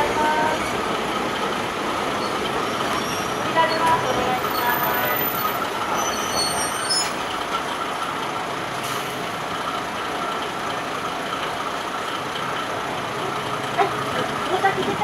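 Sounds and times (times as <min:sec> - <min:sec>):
diesel railcar engine: 0:00.0 - 0:15.0
train wheels on rails: 0:00.0 - 0:15.0.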